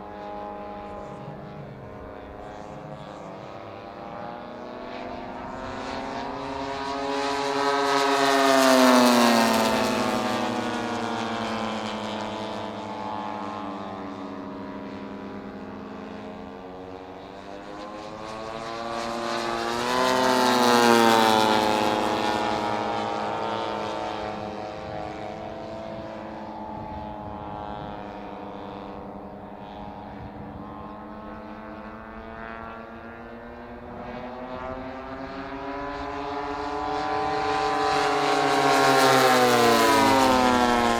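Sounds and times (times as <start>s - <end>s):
model plane propeller engine droning: 0.0s - 40.9s.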